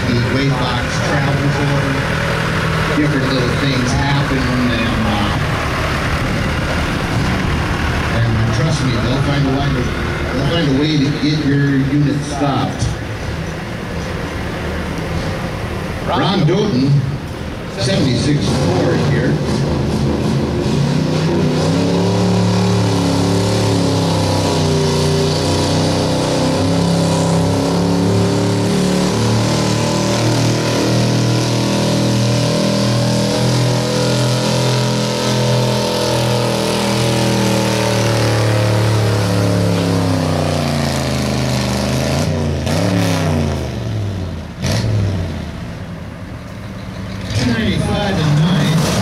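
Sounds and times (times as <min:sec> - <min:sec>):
truck engine revving under load: 0:00.0 - 0:49.0.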